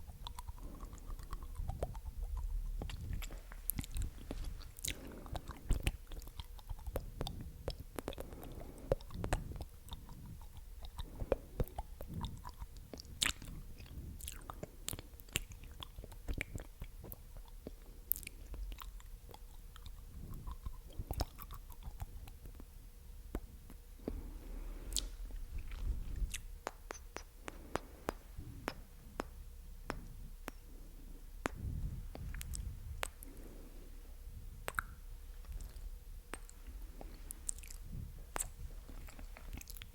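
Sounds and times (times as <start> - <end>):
wet mouth clicks and pops: 0.0 - 22.7, 23.3 - 24.2, 24.9 - 30.7, 31.4 - 33.5, 34.6 - 39.9.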